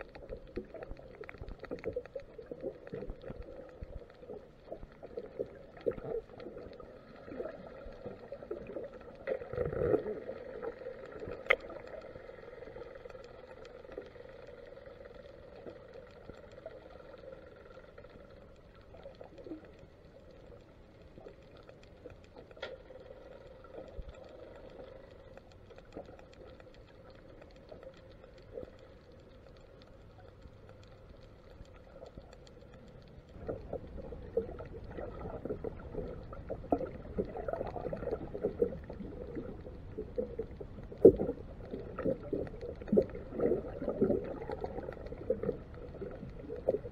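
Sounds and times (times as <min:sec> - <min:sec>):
crackling and knocking noise: 0:00.0 - 0:46.9
faint clicks: 0:00.0 - 0:46.9
muffled underwater hum: 0:00.0 - 0:46.9.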